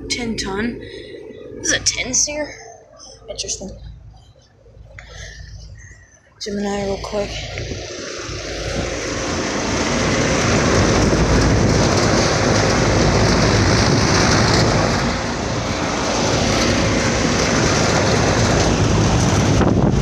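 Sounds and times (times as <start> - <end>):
compressor hum: 0.0 - 20.0
condenser fans rushing air: 0.0 - 20.0.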